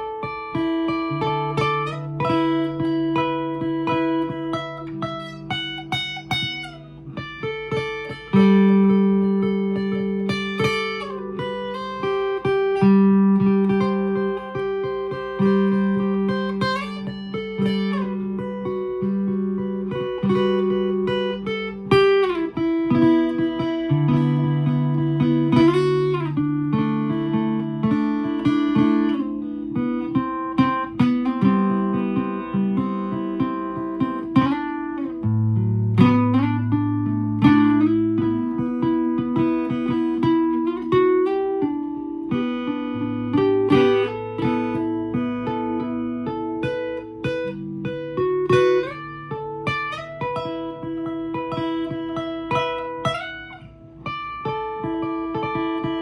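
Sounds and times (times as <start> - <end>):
solo guitar playing: 0.0 - 56.0.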